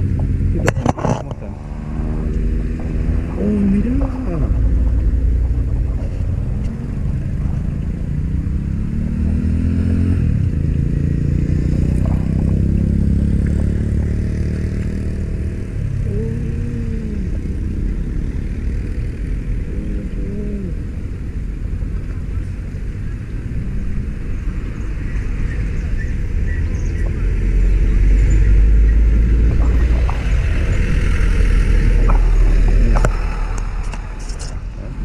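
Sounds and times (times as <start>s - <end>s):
engine accelerating: 0.0s - 21.0s, 22.2s - 35.0s
engine revving: 0.0s - 21.0s, 22.8s - 35.0s
traffic engine rumble: 0.0s - 35.0s.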